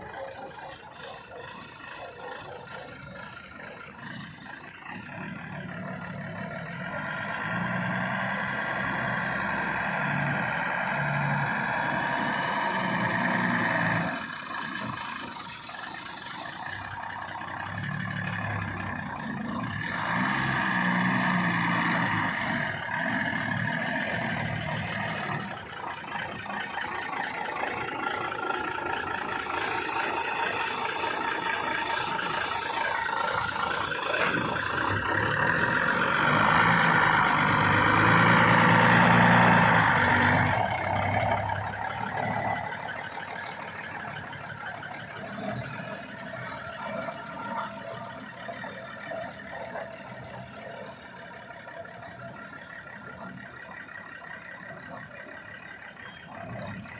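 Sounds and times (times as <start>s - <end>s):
truck diesel engine revving: 0.0s - 56.9s.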